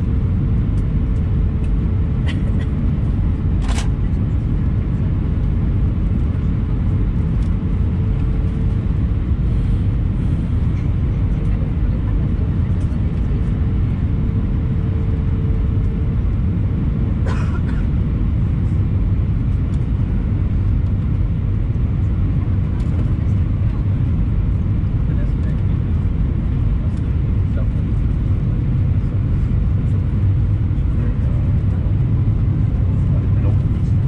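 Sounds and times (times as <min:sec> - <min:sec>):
aircraft cabin engine rumble: 0:00.0 - 0:34.0.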